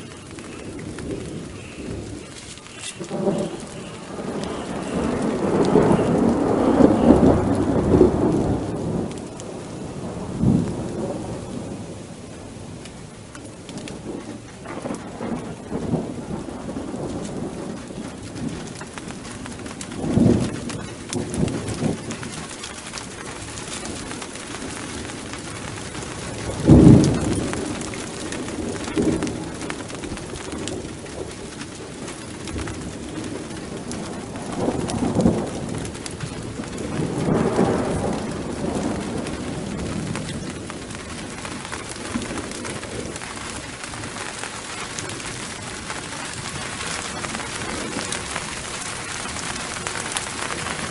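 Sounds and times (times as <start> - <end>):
rolling thunder: 0.0 - 50.9
steady rain: 0.0 - 50.9.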